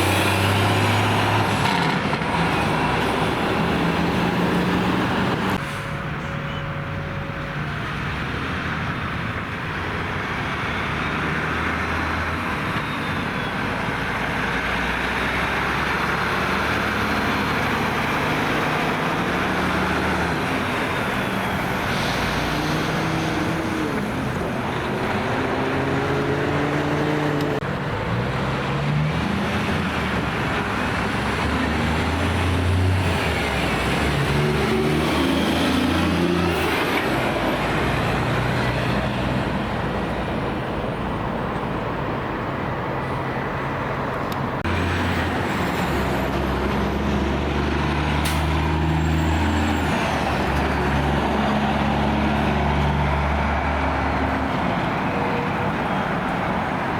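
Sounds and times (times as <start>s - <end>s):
tyre and road noise: 0.0s - 56.9s
vehicle engines passing: 0.0s - 56.9s.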